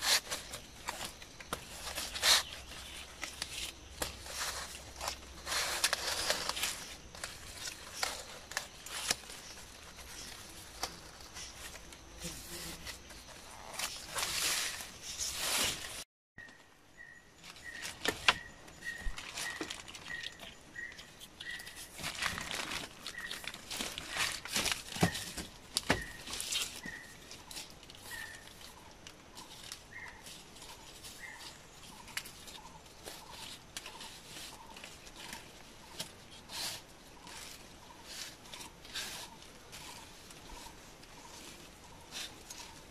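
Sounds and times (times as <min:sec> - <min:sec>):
palm leaf strips rustling: 0:00.0 - 0:16.1, 0:17.0 - 0:42.9.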